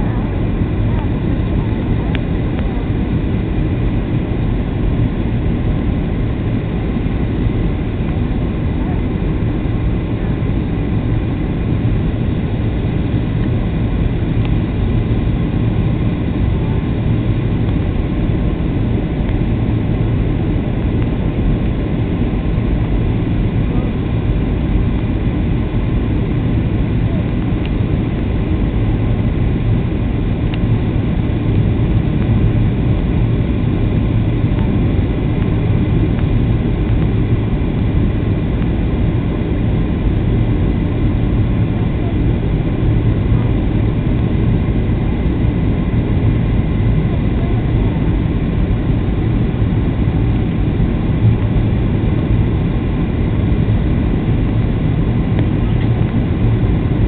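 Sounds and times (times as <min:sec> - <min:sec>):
airplane cabin engine drone: 0:00.0 - 0:57.0
faint steady whine: 0:00.0 - 0:57.0.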